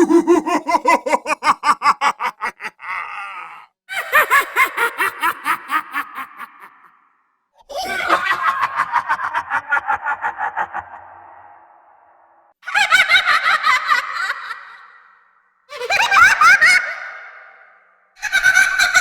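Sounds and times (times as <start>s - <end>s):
doll cackling laugh: 0.0s - 11.5s, 12.7s - 15.0s, 15.7s - 17.4s, 18.2s - 19.0s.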